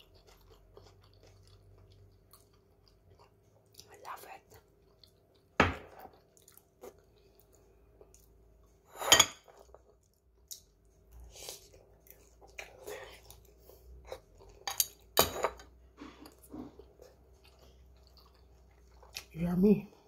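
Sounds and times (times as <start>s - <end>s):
person chewing: 0.0s - 8.8s, 9.4s - 15.2s, 16.0s - 19.3s.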